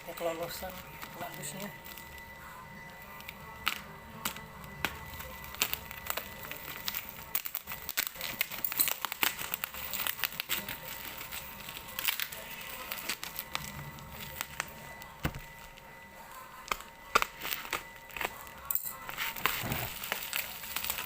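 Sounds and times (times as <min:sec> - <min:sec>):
packaging tearing and crinkling: 0:00.4 - 0:15.9, 0:16.6 - 0:21.0.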